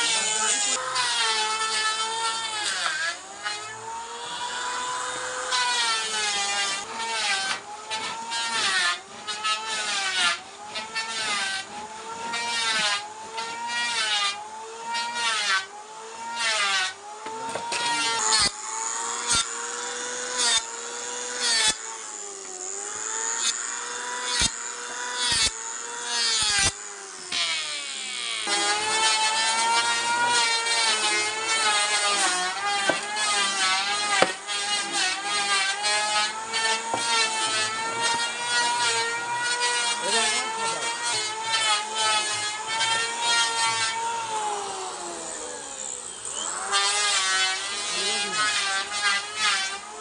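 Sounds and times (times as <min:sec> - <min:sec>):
electric power tool motor: 0:00.0 - 0:50.0
rasp of wood being cut: 0:00.0 - 0:50.0.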